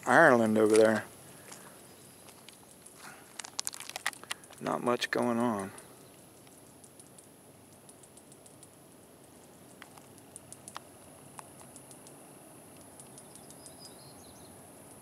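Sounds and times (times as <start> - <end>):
small ticks and clicks: 0.6 - 14.0, 14.8 - 15.0.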